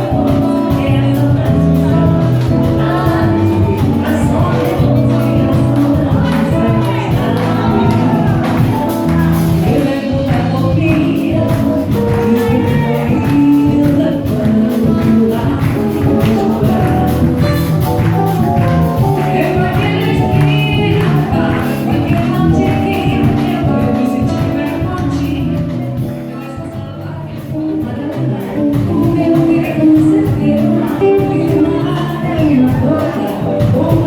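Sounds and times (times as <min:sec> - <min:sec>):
live band music: 0:00.0 - 0:34.0
person singing: 0:00.0 - 0:34.0.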